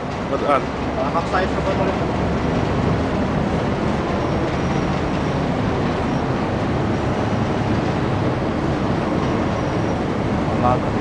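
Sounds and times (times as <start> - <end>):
ship engine rumbling: 0.0 - 11.0.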